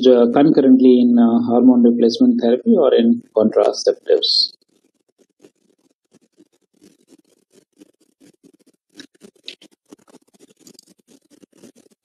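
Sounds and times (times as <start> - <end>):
faint scratching and ticking: 0.4 - 12.0.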